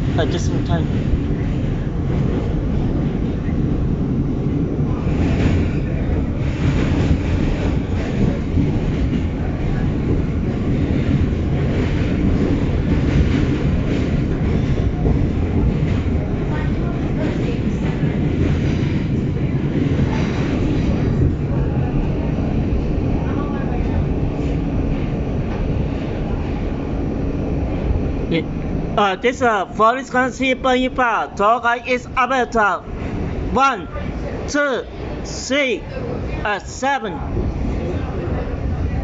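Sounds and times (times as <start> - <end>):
train clatter: 0.0 - 26.9, 27.5 - 39.0
train wheels rumbling on rails: 0.0 - 39.0.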